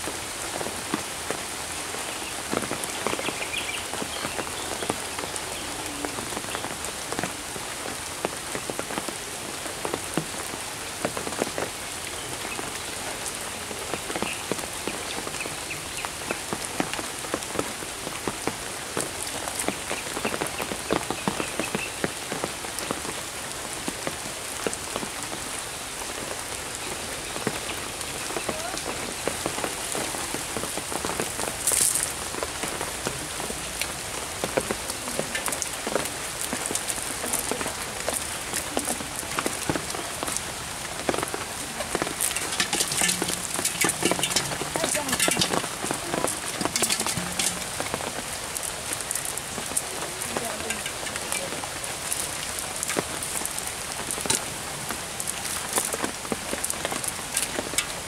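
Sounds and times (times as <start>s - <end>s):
rain falling on a pond: 0.0s - 58.0s.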